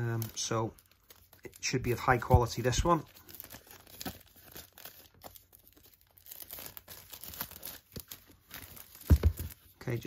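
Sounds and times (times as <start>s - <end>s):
plastic wrap crinkling and tearing: 0.0s - 10.0s.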